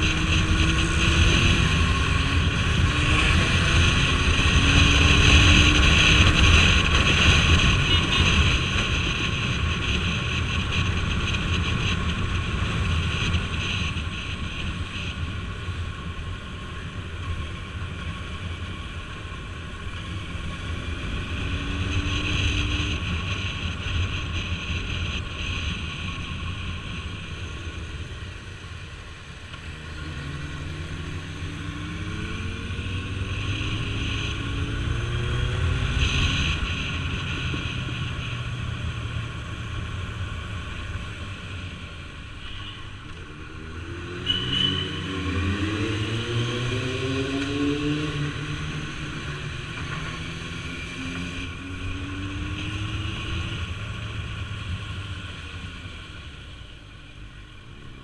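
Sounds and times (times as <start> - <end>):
motorcycle engine accelerating: 0.0 - 56.8.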